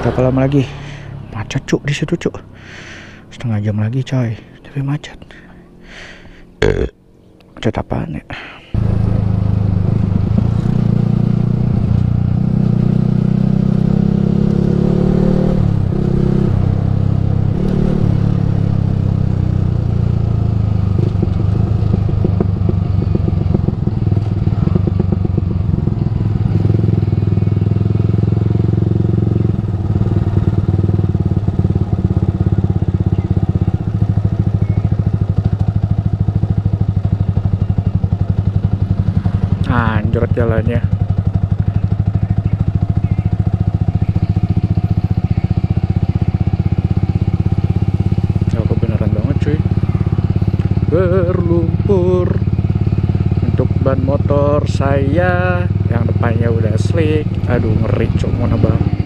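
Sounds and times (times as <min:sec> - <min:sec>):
motorcycle engine revving: 0:00.0 - 0:07.4, 0:08.8 - 0:59.0.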